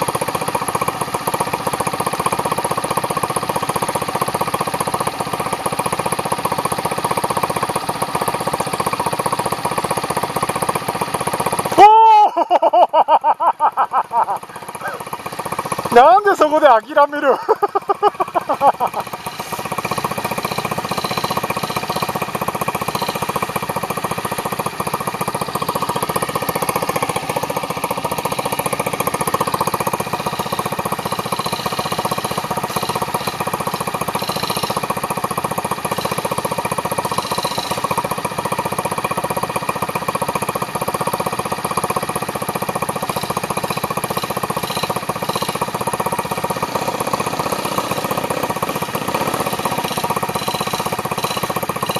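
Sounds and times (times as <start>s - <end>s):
motorcycle engine chugging: 0.0s - 51.9s.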